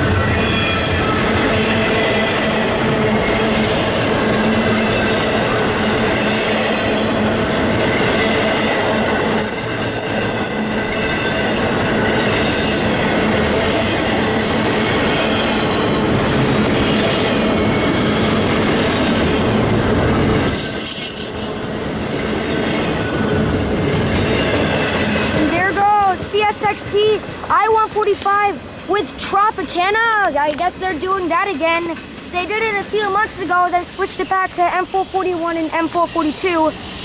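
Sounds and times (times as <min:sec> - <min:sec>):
steel wheels squealing on rails: 0:00.0 - 0:30.2, 0:30.8 - 0:37.0
railroad cars rumbling past: 0:00.0 - 0:37.0.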